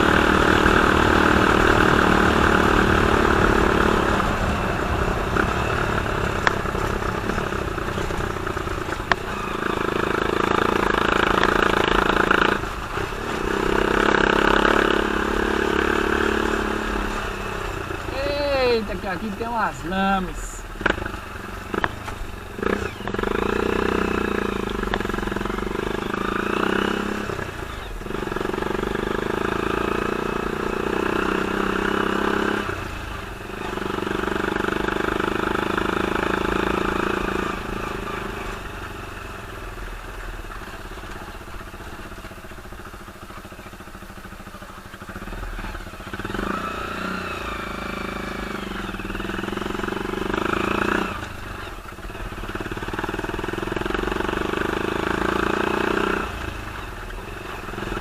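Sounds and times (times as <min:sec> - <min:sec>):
buggy engine running: 0:00.0 - 0:58.0.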